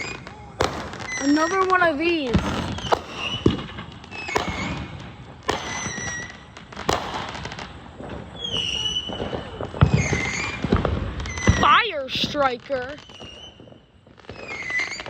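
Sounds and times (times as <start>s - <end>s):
fireworks popping and crackling: 0.0s - 15.0s
fireworks whistling: 0.0s - 15.0s.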